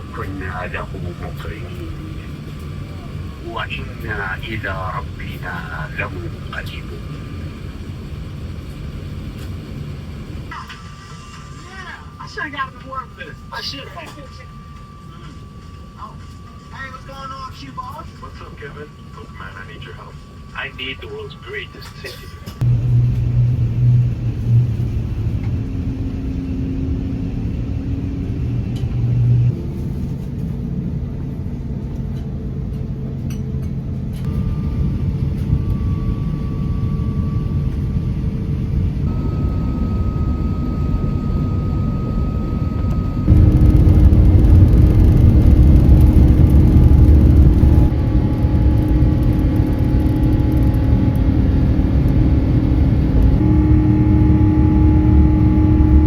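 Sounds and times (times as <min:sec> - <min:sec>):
faint steady tones: 0:00.0 - 0:24.0, 0:34.3 - 0:56.0
engine and airflow rumble: 0:00.0 - 0:56.0.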